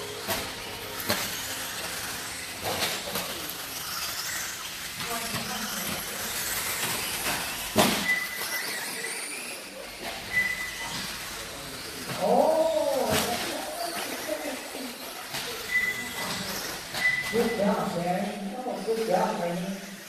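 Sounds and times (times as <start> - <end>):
rc buggy motors and tyres: 0.0 - 20.0.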